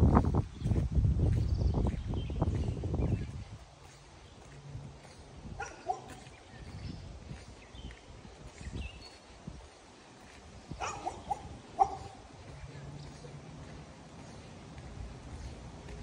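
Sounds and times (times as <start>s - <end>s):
footsteps on asphalt: 0.0s - 16.0s.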